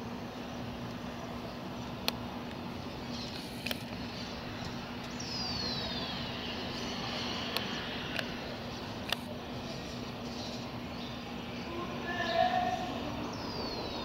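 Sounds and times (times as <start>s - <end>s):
distant jet rumble: 0.0s - 14.0s.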